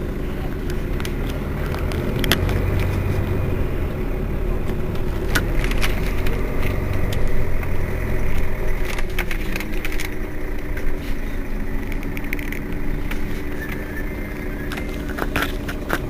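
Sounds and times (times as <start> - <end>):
bus engine idling: 0.0 - 16.0
crackles and clicks: 0.0 - 16.0.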